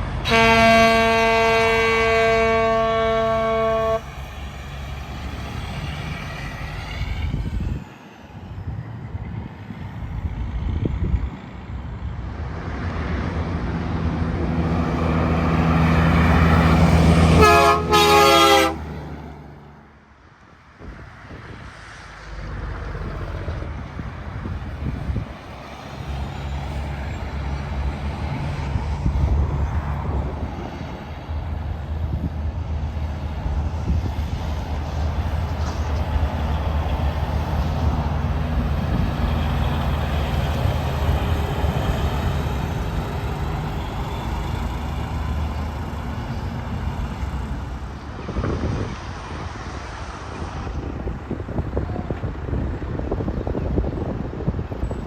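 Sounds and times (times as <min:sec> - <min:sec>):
diesel truck engines droning: 0:00.0 - 0:55.0.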